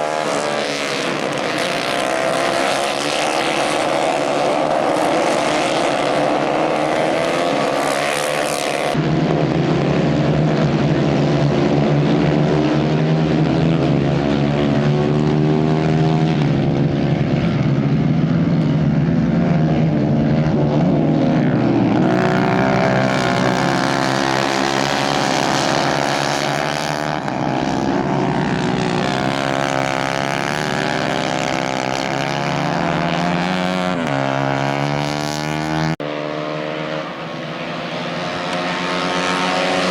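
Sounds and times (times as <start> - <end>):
racing kart engines running hard: 0.0 - 39.9.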